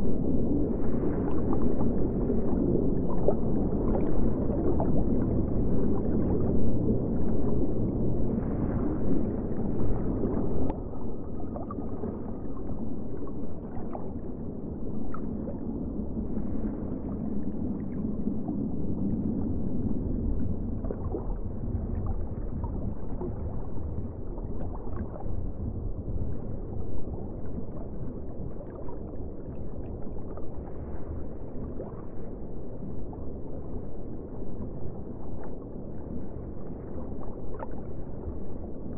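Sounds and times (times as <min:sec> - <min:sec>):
muffled underwater wash: 0:00.0 - 0:38.9.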